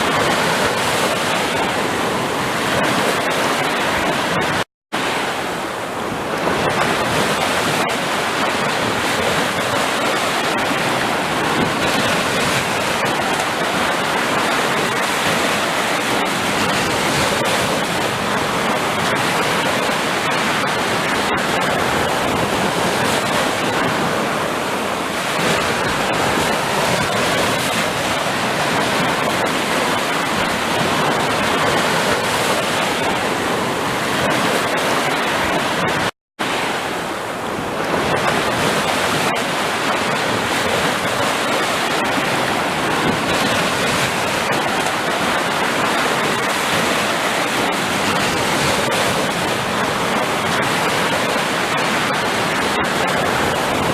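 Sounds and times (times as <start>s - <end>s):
ocean surf: 0.0s - 53.9s.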